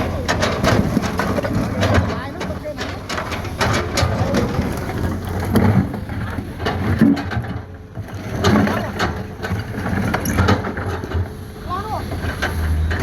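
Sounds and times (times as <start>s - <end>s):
knocks and rattles: 0.0s - 11.4s
excavator diesel engine rumbling: 0.0s - 13.0s.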